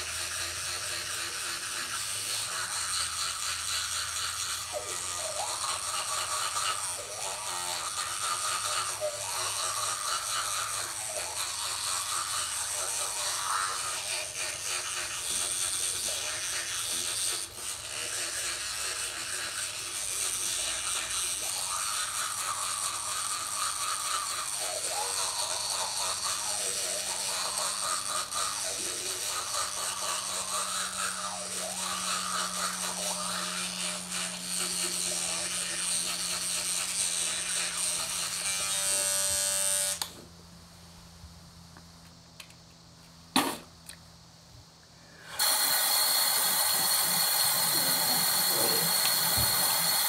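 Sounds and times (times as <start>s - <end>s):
electric toothbrush buzzing: 0.0s - 40.8s, 45.1s - 50.0s.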